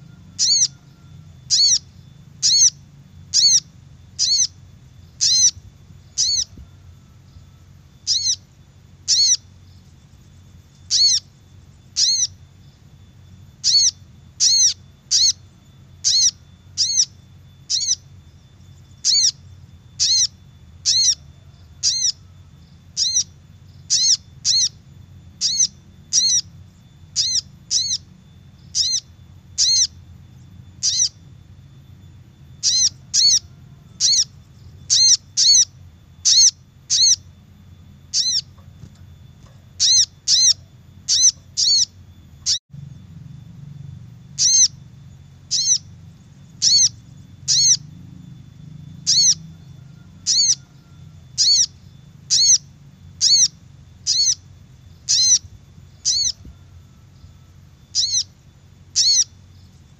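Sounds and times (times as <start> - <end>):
bird high-pitched calls: 0.0 - 42.6, 43.8 - 59.9
low steady hum: 0.0 - 59.9.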